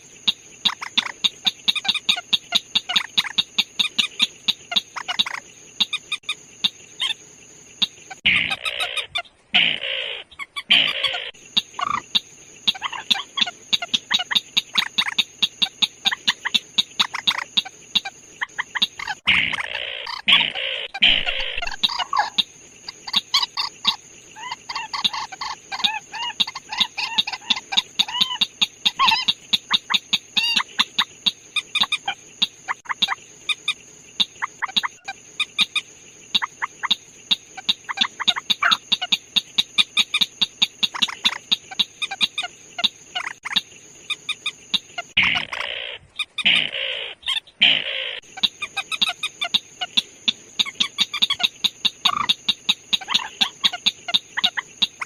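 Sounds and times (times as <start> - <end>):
bird clucking calls: 0.2 - 7.2, 7.8 - 55.0.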